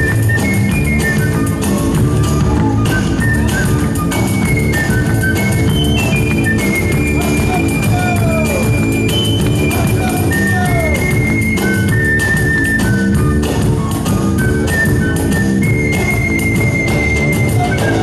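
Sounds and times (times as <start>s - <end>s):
bass guitar: 0.0s - 18.0s
flute melody: 0.0s - 18.0s
steady drum beat: 0.0s - 18.0s.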